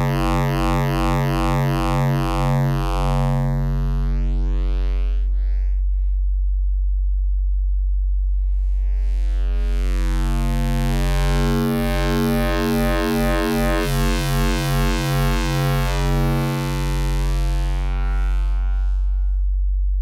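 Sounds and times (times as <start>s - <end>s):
synthesizer sine tone buzzing: 0.0s - 5.8s, 8.8s - 19.6s.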